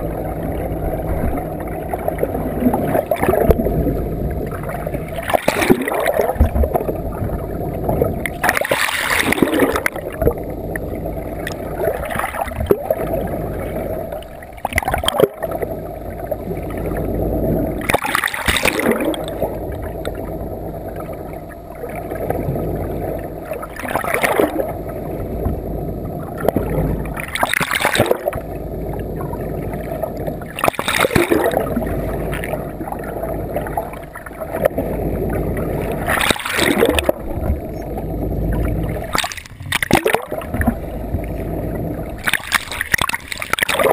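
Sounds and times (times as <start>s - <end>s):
boat engine drone: 0.0s - 43.9s
muffled water rushing and gurgling: 0.0s - 43.9s
water splashing surges: 0.0s - 43.9s.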